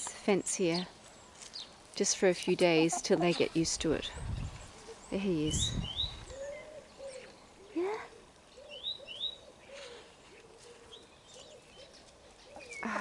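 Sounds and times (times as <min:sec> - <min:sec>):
songbird chirps: 0:00.0 - 0:13.0.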